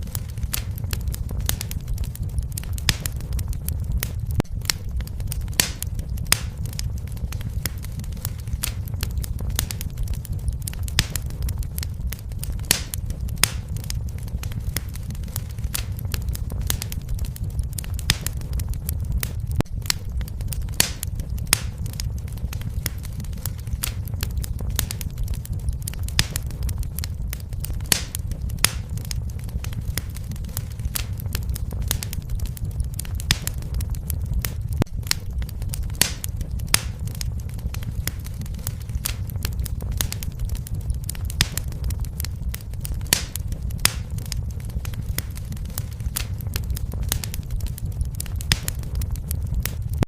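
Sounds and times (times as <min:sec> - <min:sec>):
low rumble of flames: 0:00.0 - 0:50.0
wood fire crackling and popping: 0:00.0 - 0:50.0.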